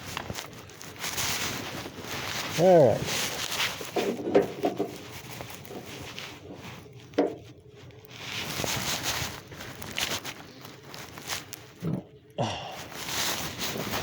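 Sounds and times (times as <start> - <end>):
clothing rustling on microphone: 0.0 - 12.2, 12.8 - 14.0.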